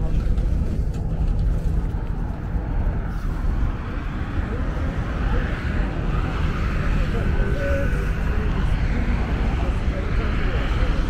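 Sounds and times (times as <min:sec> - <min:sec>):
faint voices of passers-by: 0:00.0 - 0:11.0
traffic rumble: 0:00.0 - 0:11.0.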